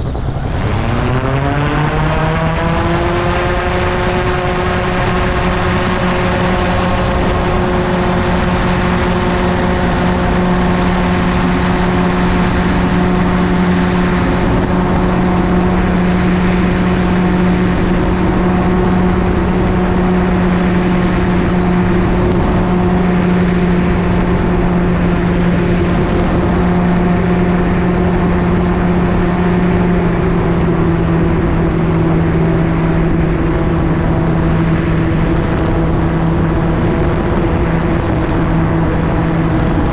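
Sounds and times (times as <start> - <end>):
gyroplane engine and propeller: 0.0 - 39.9
wind noise on microphone: 0.0 - 39.9.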